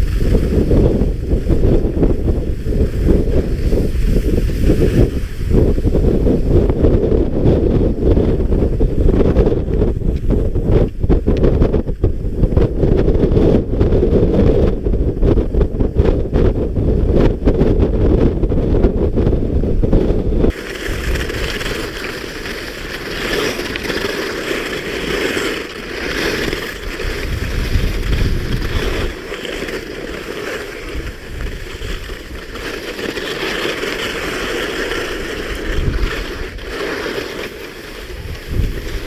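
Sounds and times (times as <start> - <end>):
skis scraping over snow: 0.0 - 13.6, 20.0 - 39.0
wind buffeting microphone: 0.0 - 39.0.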